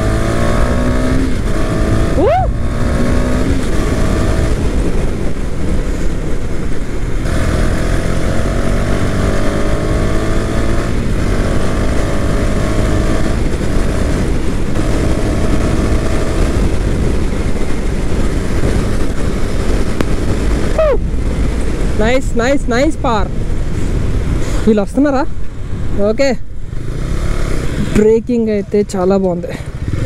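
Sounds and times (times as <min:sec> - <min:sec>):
wind rush on microphone: 0:00.0 - 0:28.8
motorcycle engine accelerating: 0:00.0 - 0:30.0.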